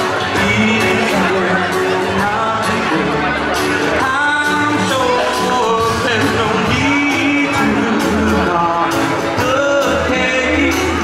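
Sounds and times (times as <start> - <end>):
live band playing upbeat song: 0.0 - 11.0
steady bass line: 0.0 - 11.0.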